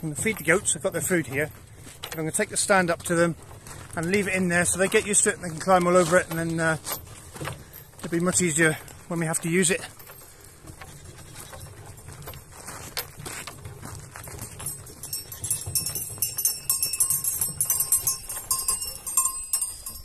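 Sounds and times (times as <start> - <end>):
small bells jingling: 0.0 - 3.4, 4.0 - 20.0
footsteps on dry ground: 0.0 - 20.0.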